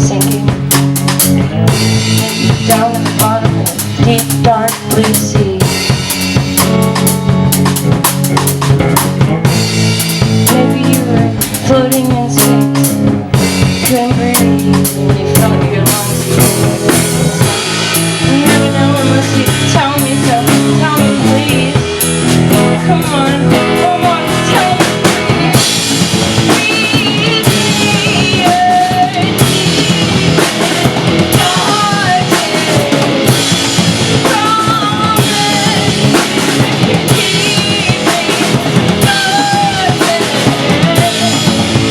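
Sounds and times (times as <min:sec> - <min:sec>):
rock guitar: 0:00.0 - 0:41.9.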